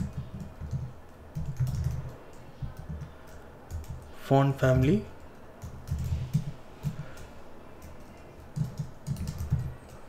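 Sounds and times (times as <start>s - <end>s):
computer keyboard typing: 0.0s - 10.0s.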